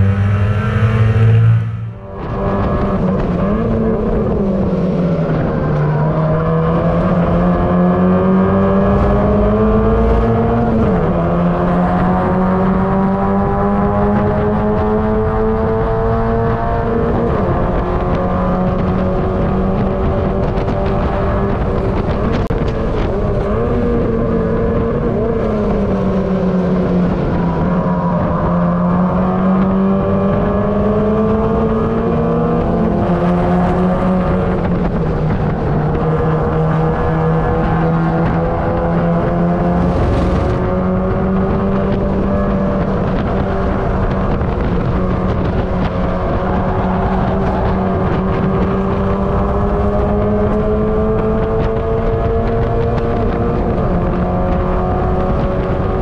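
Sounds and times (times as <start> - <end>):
race car engine under load: 0.0 - 56.0
wind and road noise: 0.0 - 56.0.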